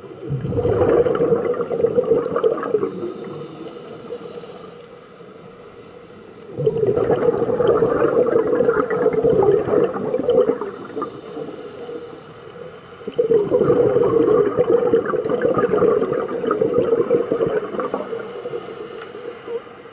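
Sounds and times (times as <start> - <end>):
underwater exhaled bubbles: 0.0 - 4.5, 6.4 - 19.9.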